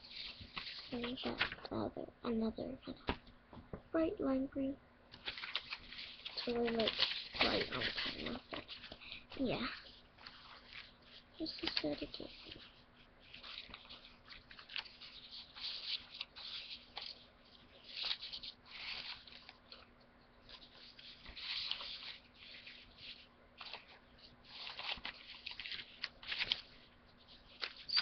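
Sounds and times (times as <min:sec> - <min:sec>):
paper sheets rustling and sliding: 0:00.0 - 0:01.8, 0:05.1 - 0:19.9, 0:20.5 - 0:28.0.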